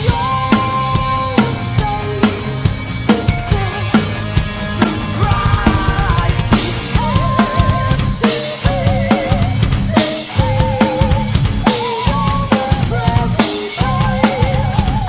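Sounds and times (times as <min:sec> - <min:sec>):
drum kit playing: 0:00.0 - 0:15.0
metal music recording: 0:00.0 - 0:15.0.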